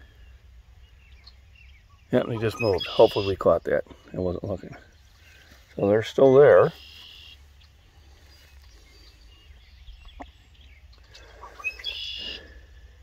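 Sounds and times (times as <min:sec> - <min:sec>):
bird singing: 0:00.0 - 0:13.0.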